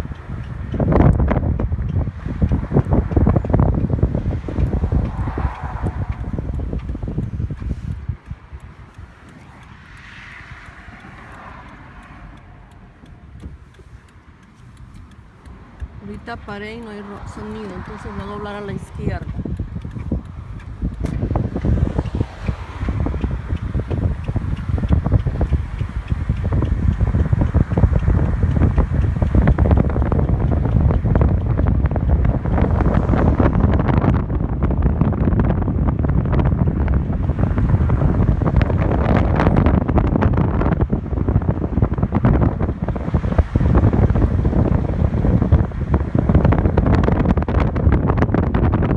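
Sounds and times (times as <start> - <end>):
passing vehicle: 0.0 - 48.9
traffic rumble from inside car: 0.0 - 48.9.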